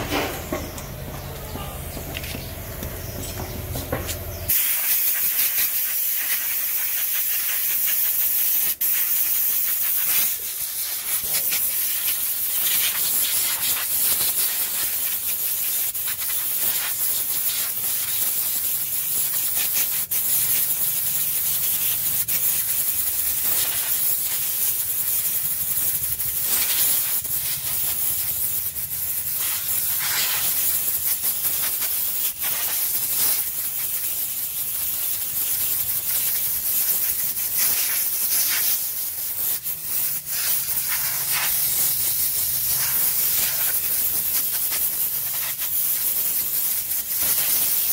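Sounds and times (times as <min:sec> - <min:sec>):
air blow gun hissing: 0:04.4 - 0:47.9.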